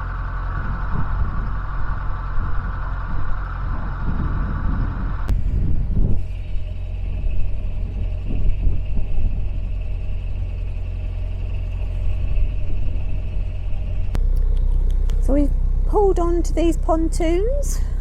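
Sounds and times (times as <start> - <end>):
wind rumbling on microphone: 0.0 - 15.5
boat engine running: 0.0 - 18.0.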